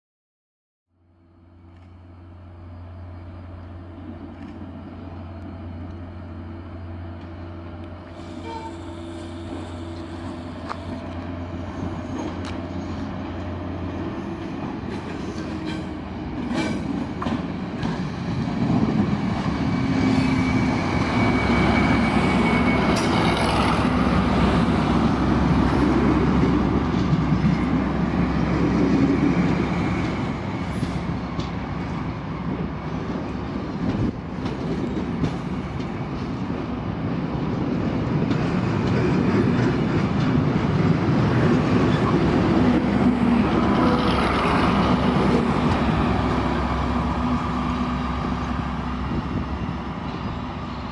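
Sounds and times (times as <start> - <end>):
train wheels rumbling on track: 1.2 - 50.9.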